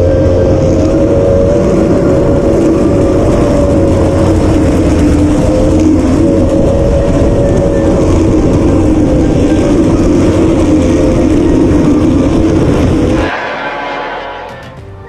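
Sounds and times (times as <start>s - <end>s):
outboard engine running hard: 0.0s - 14.6s
rough rush of noise: 0.0s - 15.0s.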